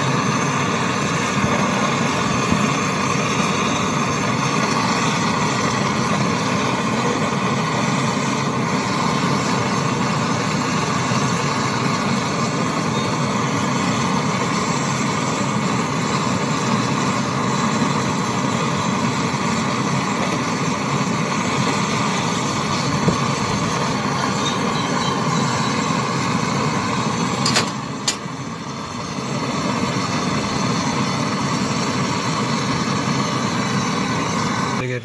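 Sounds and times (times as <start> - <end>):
brazing torch flame hissing: 0.0 - 35.0.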